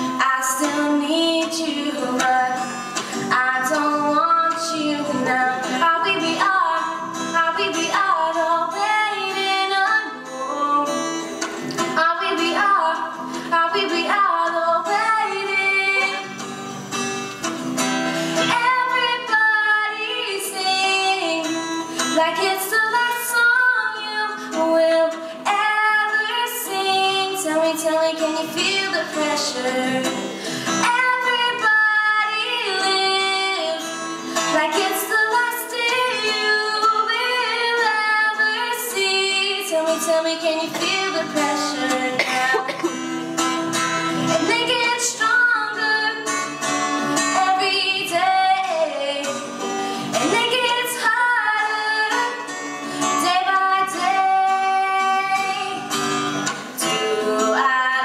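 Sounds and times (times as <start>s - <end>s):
woman singing: 0.0s - 16.6s, 18.3s - 58.0s
acoustic guitar strumming: 0.0s - 58.0s.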